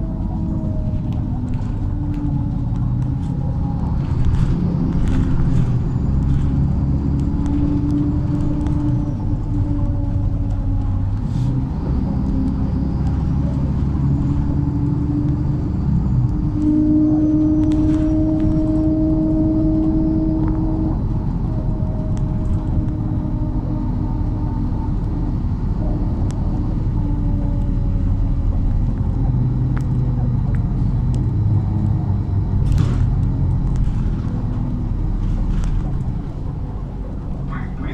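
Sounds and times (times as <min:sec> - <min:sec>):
bus engine rumble: 0:00.0 - 0:37.9
drivetrain whine: 0:00.0 - 0:37.9.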